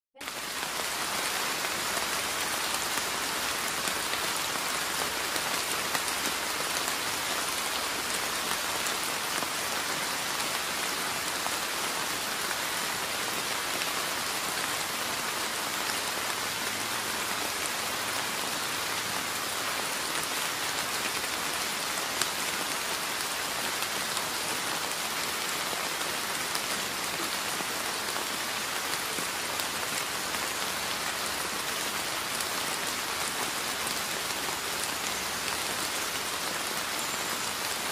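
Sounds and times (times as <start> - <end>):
steady rain falling: 0.2 - 37.9.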